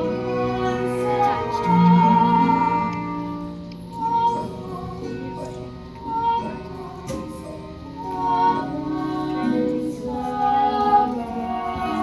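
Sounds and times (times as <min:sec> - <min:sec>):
singing with instruments: 0:00.0 - 0:12.0.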